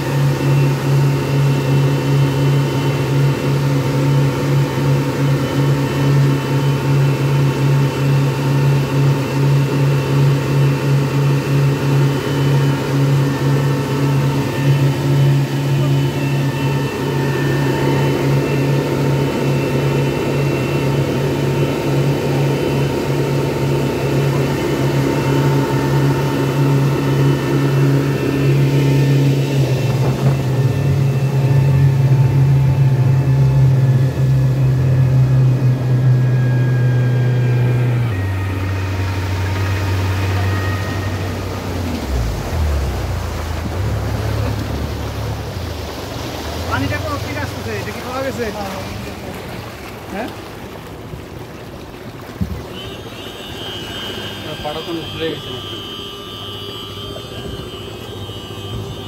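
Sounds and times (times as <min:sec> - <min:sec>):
outboard motors running: 0:00.0 - 0:59.0
rush of boat wake: 0:00.0 - 0:59.0.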